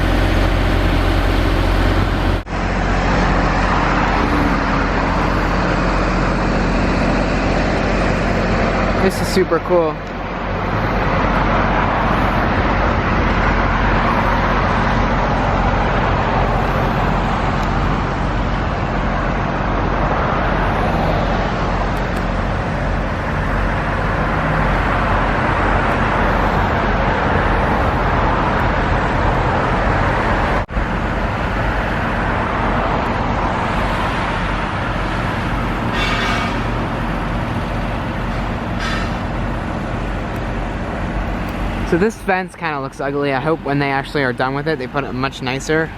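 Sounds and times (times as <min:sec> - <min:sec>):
road traffic roar: 0:00.0 - 0:45.9.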